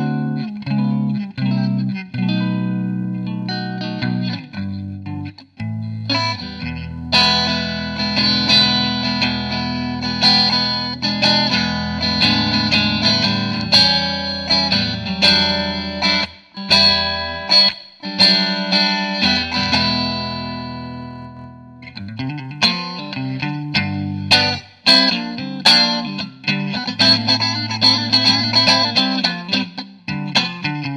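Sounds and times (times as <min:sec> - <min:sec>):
electric guitar strummed chords: 0:00.0 - 0:30.9.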